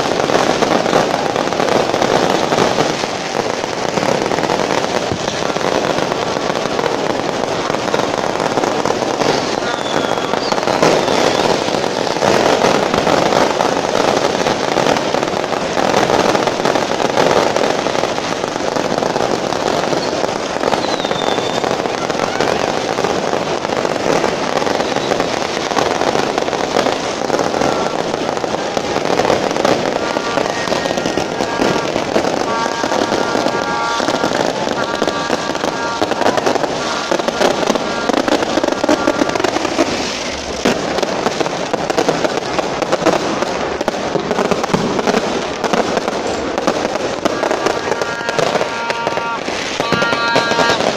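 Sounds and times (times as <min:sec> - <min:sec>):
fireworks crackling and banging: 0:00.0 - 0:50.9.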